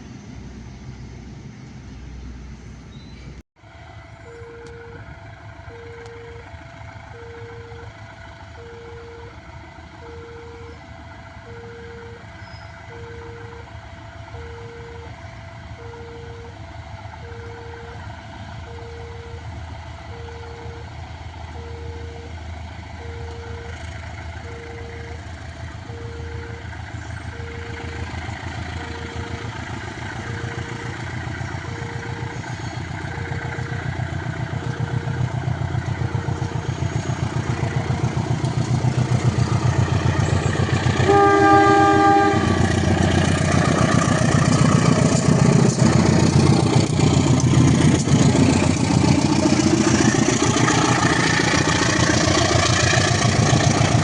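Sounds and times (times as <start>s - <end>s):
low engine rumble: 0.0s - 54.0s
level crossing alarm beeping: 4.0s - 52.4s.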